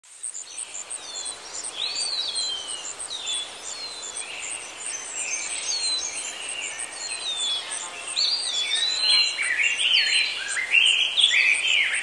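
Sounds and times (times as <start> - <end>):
steady hiss: 0.1 - 12.0.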